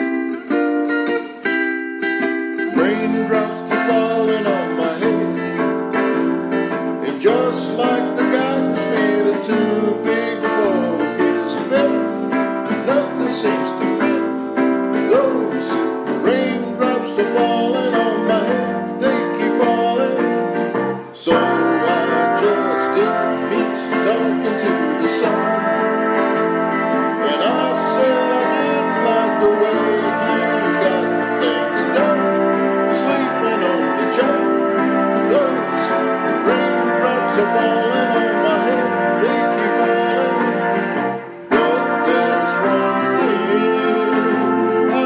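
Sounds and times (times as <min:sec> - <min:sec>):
strummed plucked strings: 0:00.0 - 0:45.0.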